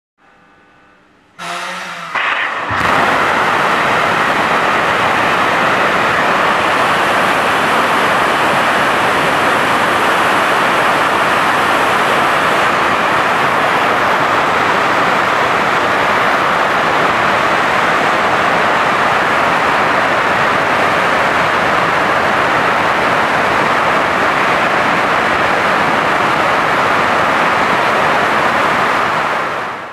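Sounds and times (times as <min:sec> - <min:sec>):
rocket engine roaring: 0:01.4 - 0:26.7.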